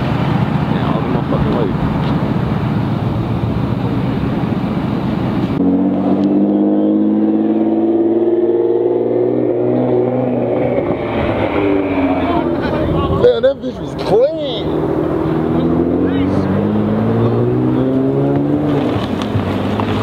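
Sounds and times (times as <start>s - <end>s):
car engines rumbling: 0.0s - 20.0s
car exhaust droning by: 0.0s - 20.0s.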